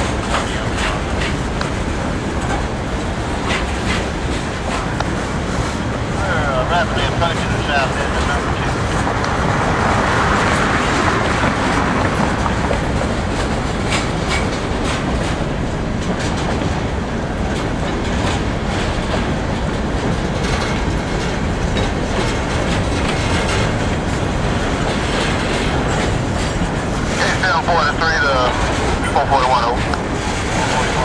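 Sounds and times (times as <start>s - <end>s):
wheels clicking over rail joints: 0.0s - 6.3s, 6.9s - 31.0s
train wheels rumbling on rails: 0.0s - 31.0s.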